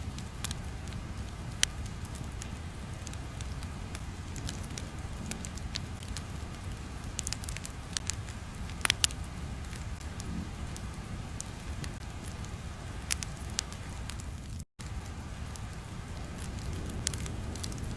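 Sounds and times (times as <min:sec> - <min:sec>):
sharp crackles and pops: 0:00.0 - 0:17.9.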